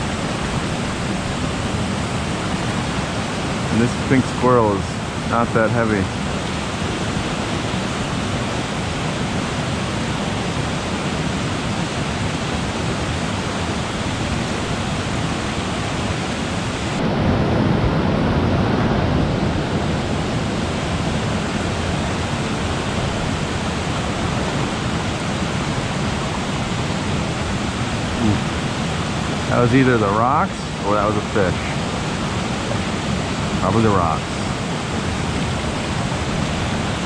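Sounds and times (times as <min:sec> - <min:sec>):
creek rushing over rocks: 0:00.0 - 0:17.0, 0:18.0 - 0:37.0.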